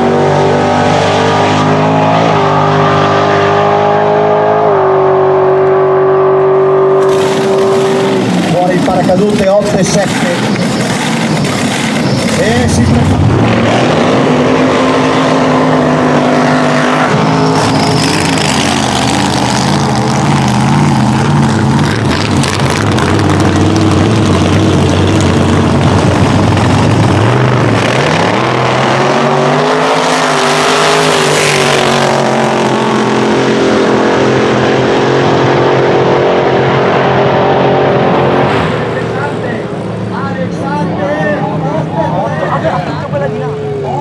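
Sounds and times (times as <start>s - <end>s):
drag racing engines revving: 0.0s - 44.0s.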